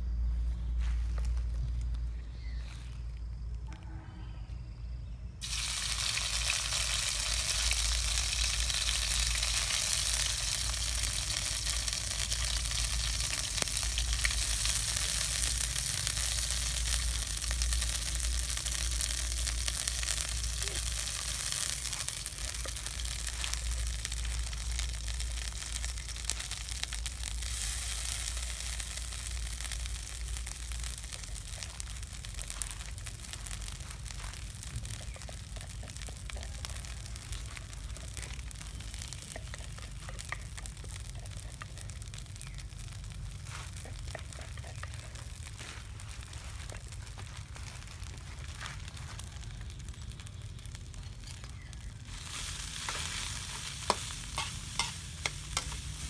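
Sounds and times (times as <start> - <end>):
paste sizzling in a wok: 5.4 - 56.0.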